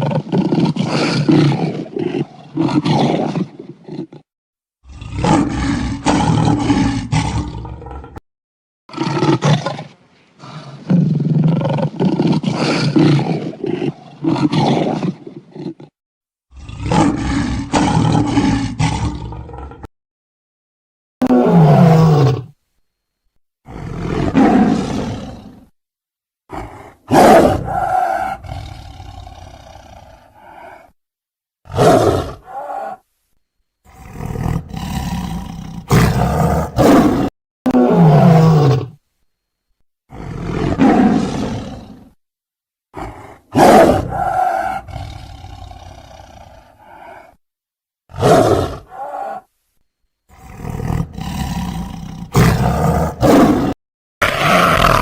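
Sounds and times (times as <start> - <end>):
big cat roaring and growling: 0.0 - 8.2, 8.9 - 19.9, 21.2 - 22.6, 23.7 - 25.7, 26.5 - 31.0, 31.6 - 33.1, 33.8 - 39.0, 40.1 - 42.2, 42.9 - 47.4, 48.1 - 49.5, 50.3 - 55.0.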